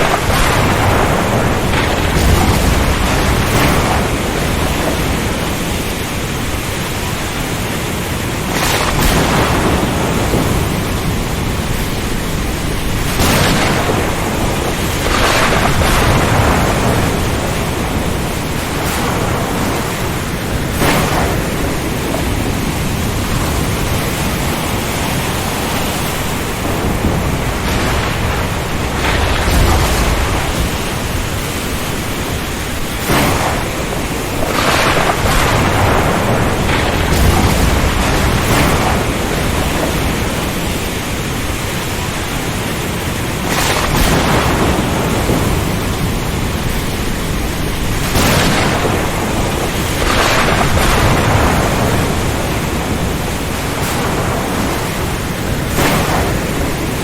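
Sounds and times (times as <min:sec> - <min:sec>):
low rumbles of thunder: 0:00.0 - 0:57.0
rain: 0:00.0 - 0:57.0
surf: 0:00.0 - 0:57.0
wind: 0:00.0 - 0:57.0.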